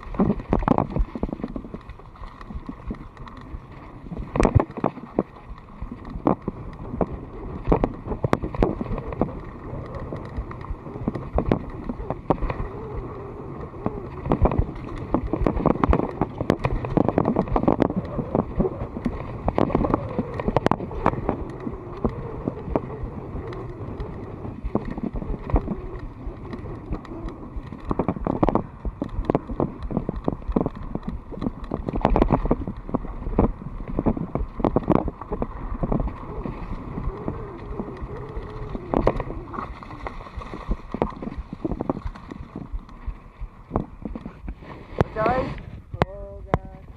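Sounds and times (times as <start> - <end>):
wind rush on microphone: 0.0 - 46.9.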